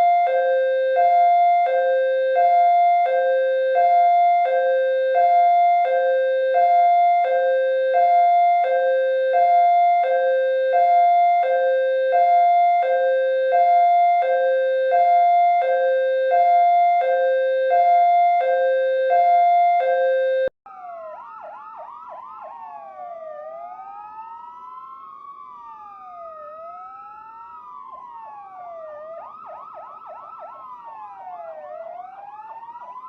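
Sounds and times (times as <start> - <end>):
police siren two-tone wail: 0.0 - 33.0.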